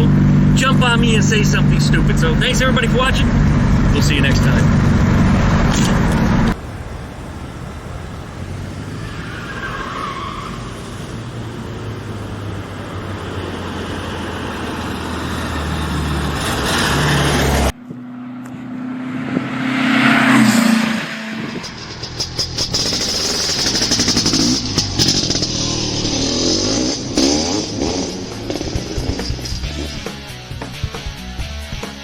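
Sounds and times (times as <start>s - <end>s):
vehicle passing by: 0.0s - 30.4s
engine hum: 0.0s - 32.0s
motor vehicle engine noise: 0.0s - 32.0s.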